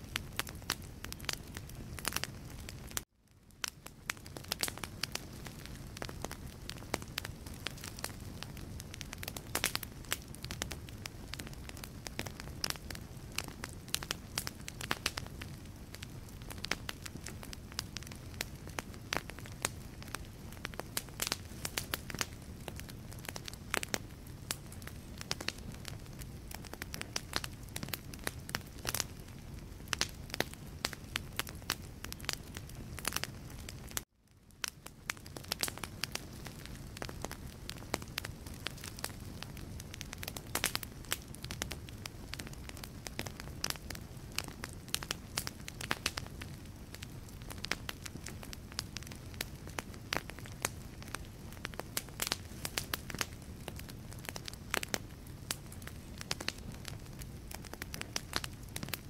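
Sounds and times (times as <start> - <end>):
logs crackling in fireplace: 0.0 - 59.0.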